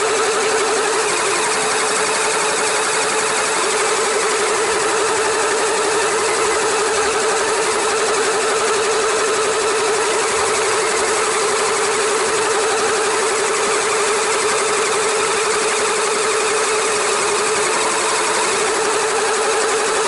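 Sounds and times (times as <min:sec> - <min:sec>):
toy motor whine: 0:00.0 - 0:20.0.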